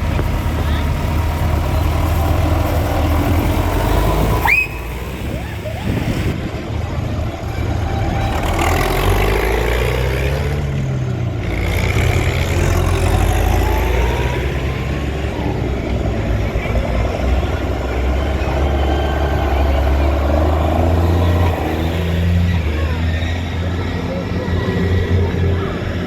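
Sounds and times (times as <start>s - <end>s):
tractor engines running: 0.0s - 26.0s.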